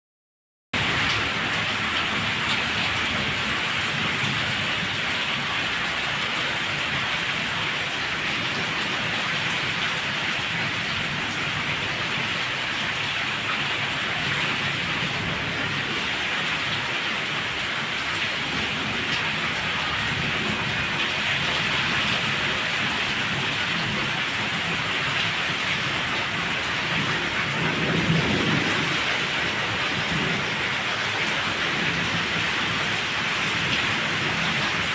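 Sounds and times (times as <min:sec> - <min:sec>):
heavy rain pouring: 0:00.8 - 0:34.9.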